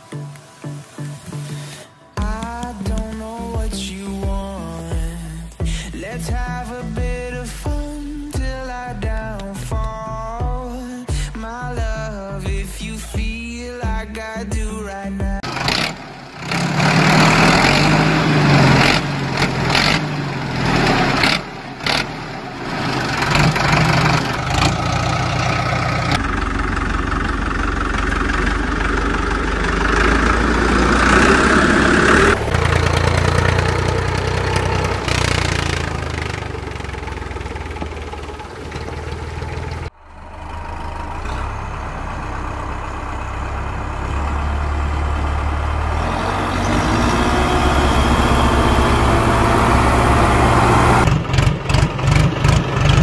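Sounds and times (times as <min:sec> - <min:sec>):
engine rumbling: 0:00.0 - 0:53.0.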